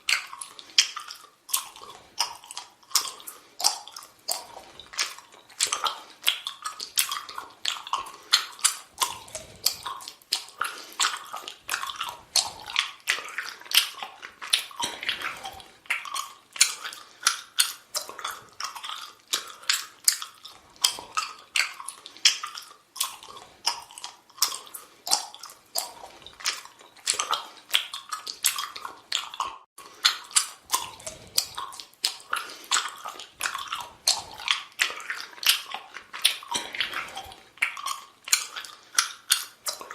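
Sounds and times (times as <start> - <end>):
person chewing gum wet smacking: 0.0 - 39.9.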